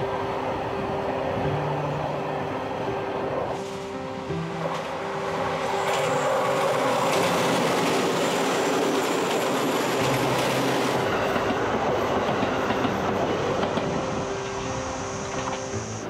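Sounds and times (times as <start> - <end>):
electric train passing at speed: 0.0 - 16.0.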